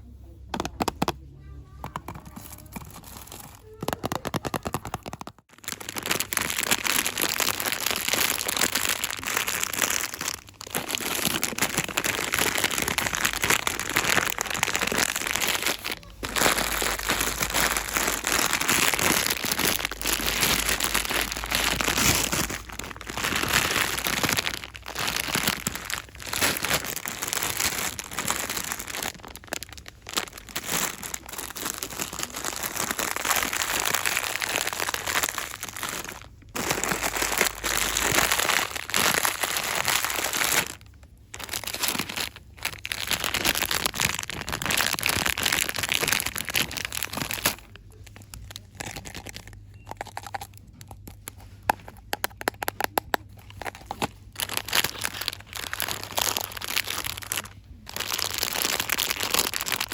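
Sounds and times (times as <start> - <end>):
packaging crinkling: 1.7 - 59.9.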